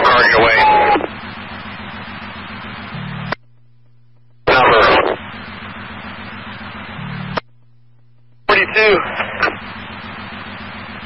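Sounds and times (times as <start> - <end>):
faint hum: 0.0 - 11.0
low radio buzz: 0.0 - 11.0
radio transmission hiss: 0.0 - 11.0.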